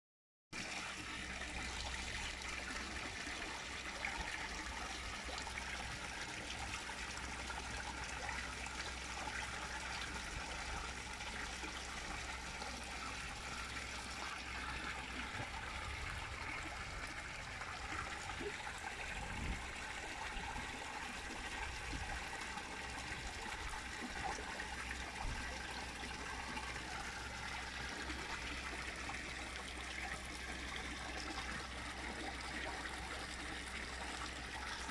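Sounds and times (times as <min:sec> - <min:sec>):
water trickling into pond: 0:00.5 - 0:34.9.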